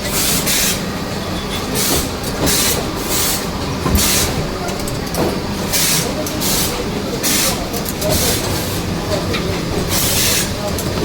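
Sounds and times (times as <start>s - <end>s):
machinery steady hum: 0.0s - 11.0s.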